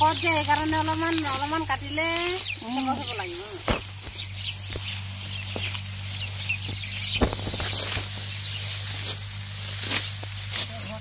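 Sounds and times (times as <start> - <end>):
birds chirping: 0.0 - 11.0
rice stalks crackling and snapping: 0.0 - 11.0.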